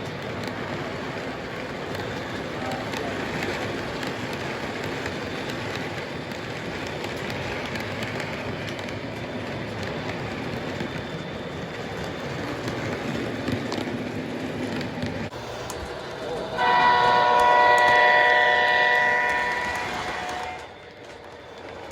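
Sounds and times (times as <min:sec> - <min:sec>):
model train running: 0:00.0 - 0:21.9
wheels clicking over rails: 0:00.0 - 0:21.9.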